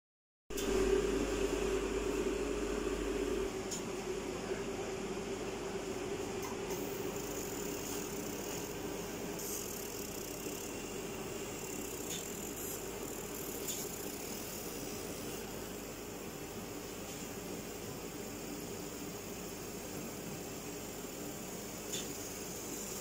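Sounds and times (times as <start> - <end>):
machine fan hum and hiss: 0.5 - 23.0.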